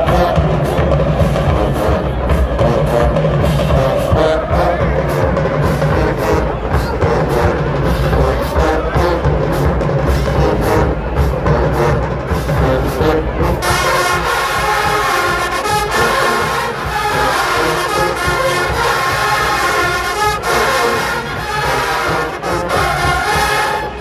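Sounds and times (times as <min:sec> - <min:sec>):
marching band brass playing: 0:00.0 - 0:24.0.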